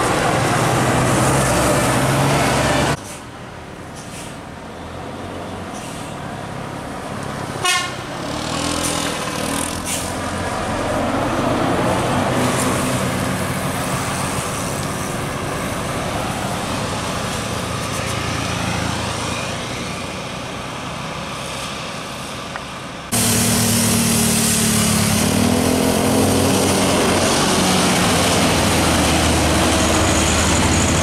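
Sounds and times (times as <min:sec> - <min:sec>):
bus engine and tyres passing: 0:00.0 - 0:31.0.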